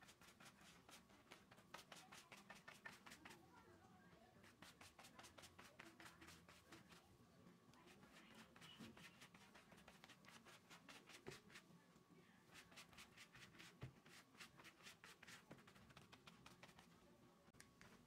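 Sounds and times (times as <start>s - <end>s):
pastry brush strokes: 0.0s - 3.6s, 4.4s - 7.1s, 7.8s - 11.8s, 12.4s - 17.1s.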